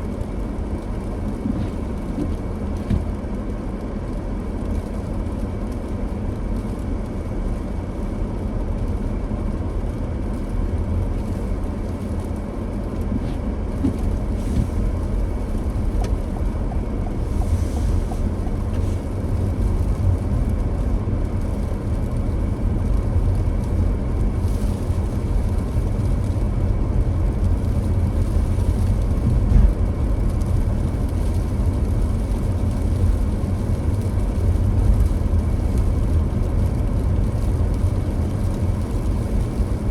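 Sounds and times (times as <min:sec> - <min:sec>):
car driving on snowy road: 0:00.0 - 0:39.9.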